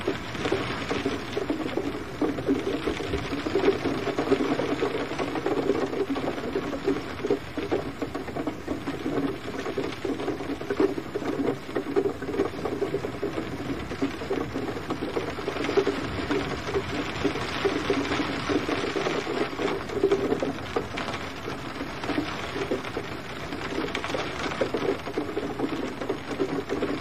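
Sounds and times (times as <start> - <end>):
gentle rain patter: 0.0 - 27.0.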